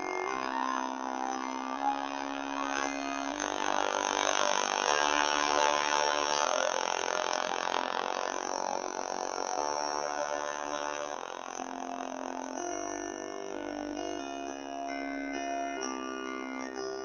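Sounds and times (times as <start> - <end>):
dark droning chords: 0.0 - 17.0.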